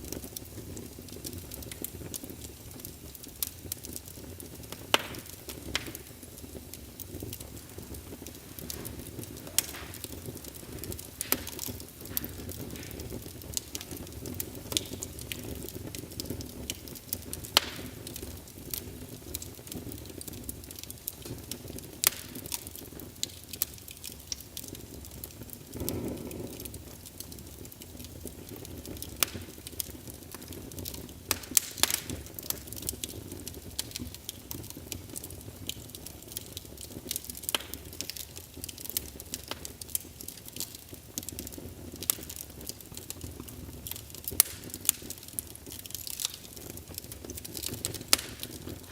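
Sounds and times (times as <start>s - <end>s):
low rumble of flame: 0.0s - 48.9s
wood fire crackling and popping: 0.0s - 48.9s.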